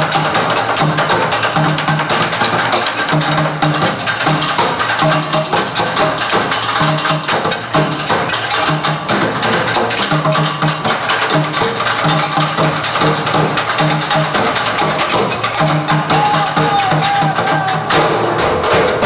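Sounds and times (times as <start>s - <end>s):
percussion on workshop objects: 0.0s - 19.0s.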